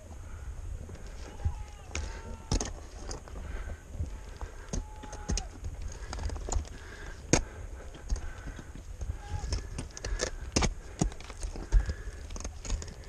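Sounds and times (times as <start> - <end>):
metal clinks of climbing gear: 0.8 - 3.4, 4.0 - 13.0.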